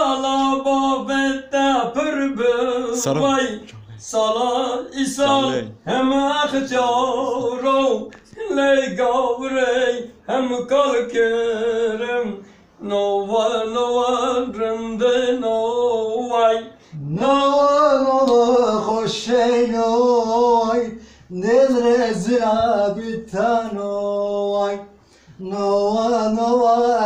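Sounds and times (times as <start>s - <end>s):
man singing with vibrato: 0.0s - 27.0s.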